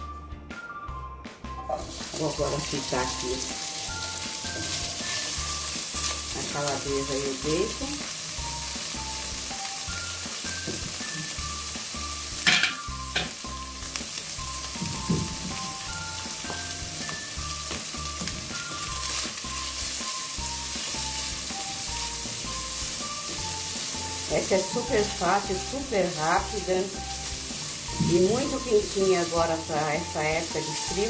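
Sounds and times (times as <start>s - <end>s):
soft music with bass beat: 0.0s - 31.0s
meat sizzling in a pot: 1.6s - 31.0s.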